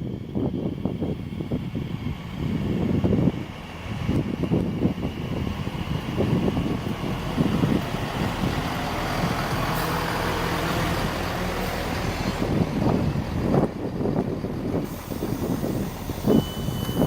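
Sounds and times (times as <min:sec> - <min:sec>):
train engine humming: 0:00.0 - 0:17.0
wind buffeting microphone: 0:00.0 - 0:17.0.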